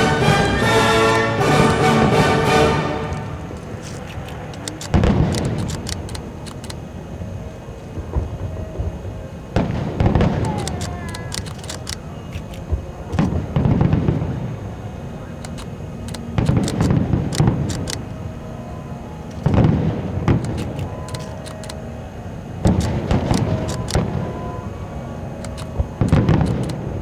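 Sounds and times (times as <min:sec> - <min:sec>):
fireworks bursting with crackling: 0:00.0 - 0:06.9, 0:07.5 - 0:18.2, 0:19.3 - 0:27.0.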